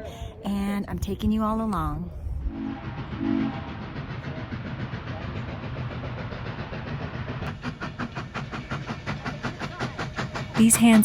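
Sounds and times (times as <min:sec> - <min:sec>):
steam locomotive running: 0:00.0 - 0:11.0.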